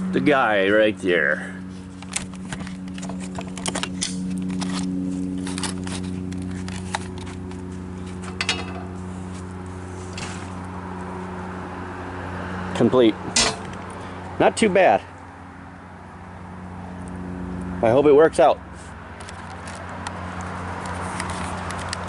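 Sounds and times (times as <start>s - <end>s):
steady low hum: 0.0s - 19.1s.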